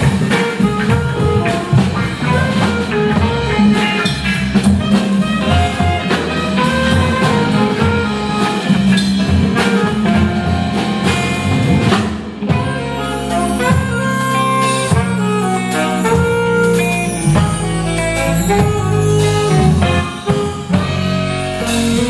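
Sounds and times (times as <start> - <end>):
live band playing jazz: 0.0 - 22.0
steady drum beat: 0.0 - 22.0.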